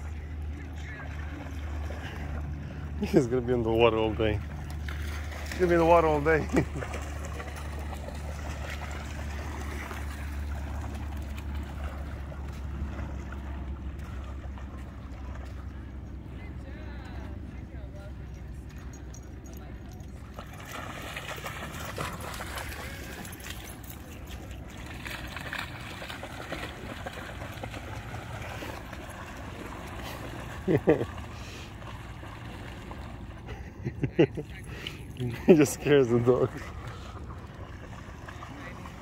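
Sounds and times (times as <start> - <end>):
water splashing and lapping: 0.0 - 39.0.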